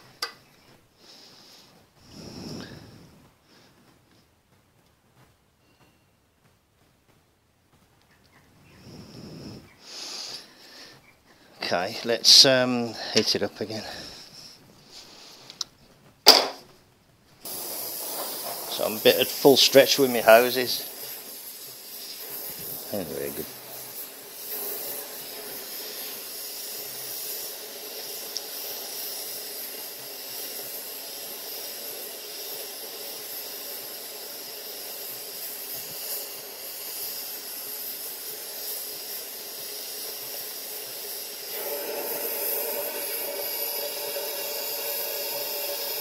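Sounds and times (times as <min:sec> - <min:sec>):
gas torch flame hissing: 0:01.0 - 0:03.8, 0:08.8 - 0:15.7, 0:17.4 - 0:46.0.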